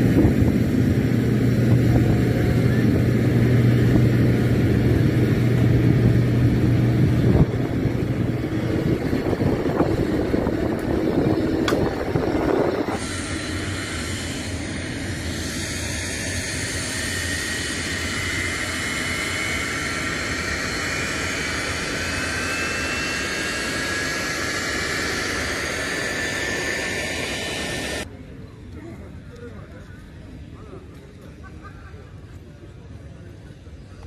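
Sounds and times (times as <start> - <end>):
high engine whine: 0.0 - 34.0
turboprop engines roaring: 0.0 - 34.0.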